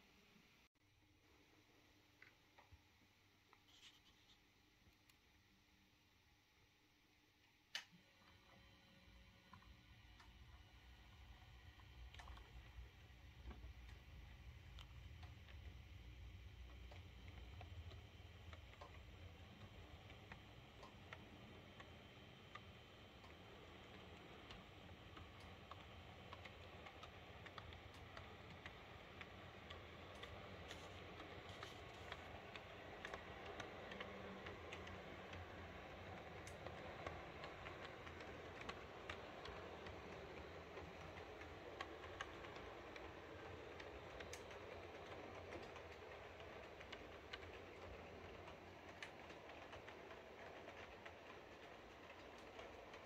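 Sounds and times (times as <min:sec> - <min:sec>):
model train rolling on track: 0:08.2 - 0:53.0
wheels clicking on rails: 0:09.5 - 0:53.0.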